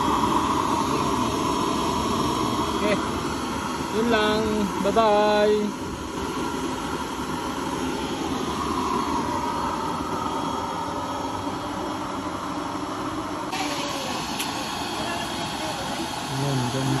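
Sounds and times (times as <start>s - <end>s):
burner flame rushing: 0.0s - 17.0s.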